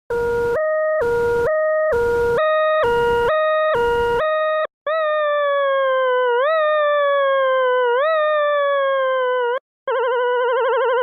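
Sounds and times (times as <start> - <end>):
electronic two-tone siren: 0.1 - 11.0.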